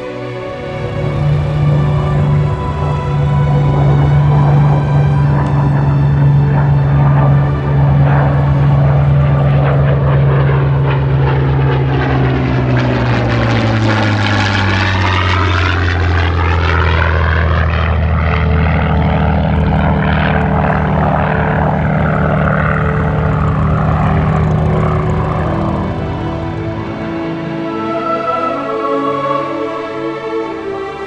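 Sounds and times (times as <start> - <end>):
propeller plane flying past: 0.3 - 27.8.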